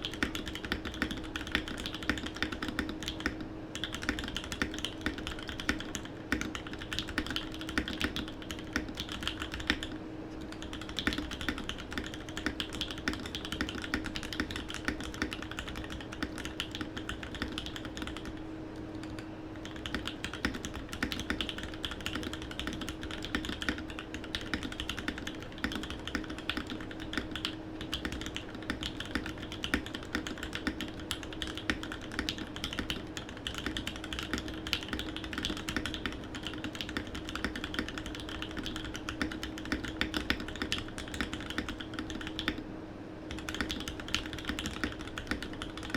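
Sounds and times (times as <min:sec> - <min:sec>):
mechanical keyboard typing: 0:00.0 - 0:42.6, 0:43.3 - 0:45.9
faint steady hum: 0:00.0 - 0:45.9.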